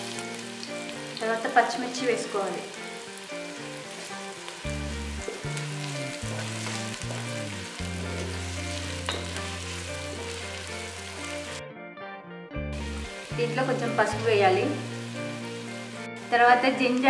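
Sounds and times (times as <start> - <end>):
onions sizzling in hot oil: 0.0 - 11.6, 12.7 - 17.0
background music with low notes: 0.0 - 17.0.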